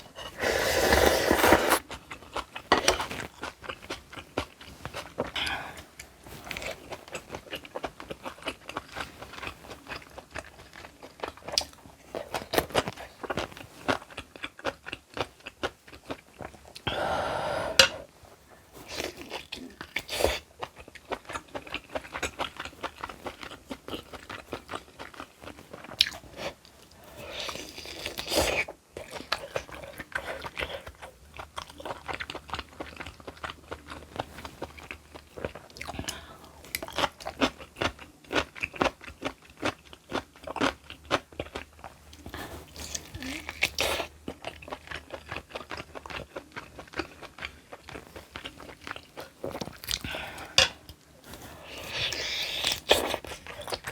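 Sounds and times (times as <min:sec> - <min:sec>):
person chewing crunchy food: 0:00.0 - 0:18.1, 0:18.8 - 0:53.9.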